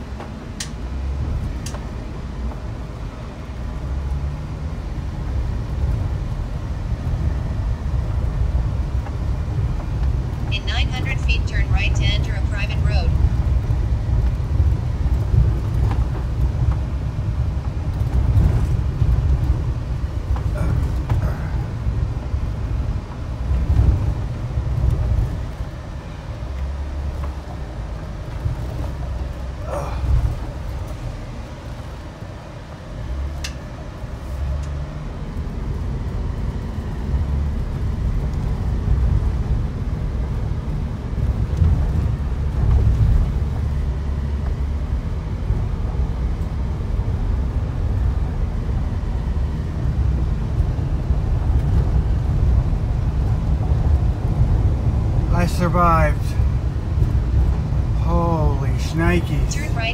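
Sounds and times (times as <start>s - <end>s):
vehicle rumbling on gravel road: 0.0s - 59.9s.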